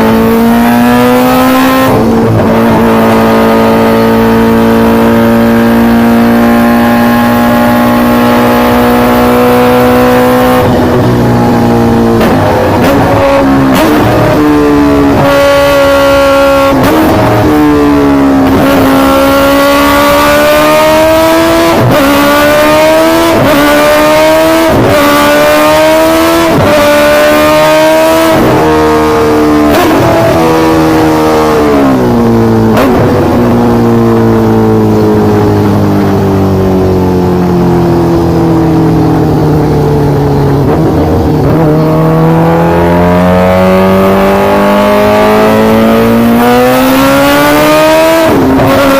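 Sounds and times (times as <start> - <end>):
motorbike engine accelerating: 0.0 - 48.9.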